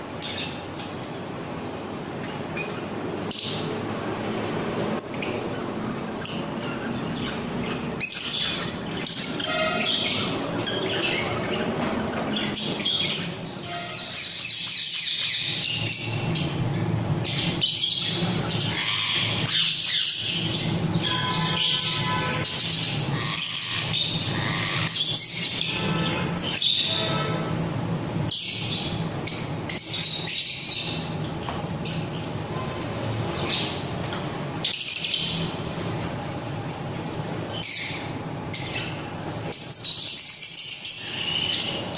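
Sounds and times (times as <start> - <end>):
parrots chirping and squawking: 0.0 - 1.0, 1.6 - 41.9.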